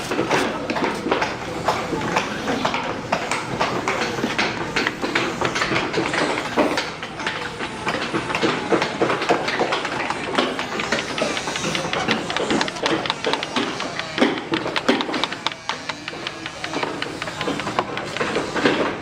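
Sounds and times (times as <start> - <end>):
mallets tapping on chisels: 0.1 - 19.0.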